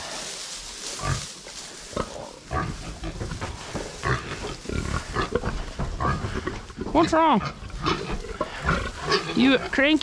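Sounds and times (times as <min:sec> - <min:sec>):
straw rustling: 0:00.0 - 0:10.0
pigs grunting: 0:01.0 - 0:10.0.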